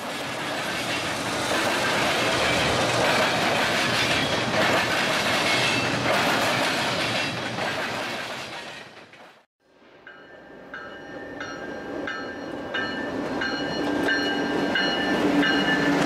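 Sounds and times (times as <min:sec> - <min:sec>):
train wheels clattering on rails: 0:00.0 - 0:09.5, 0:10.8 - 0:16.0
diesel locomotive passing: 0:00.0 - 0:16.0.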